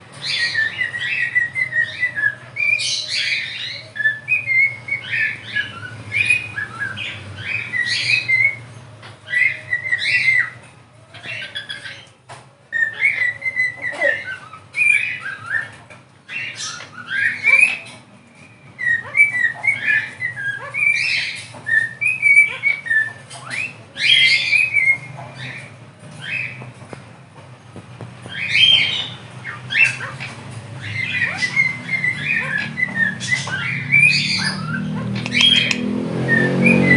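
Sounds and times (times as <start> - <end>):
parrots chirping and whistling: 0.0 - 36.9.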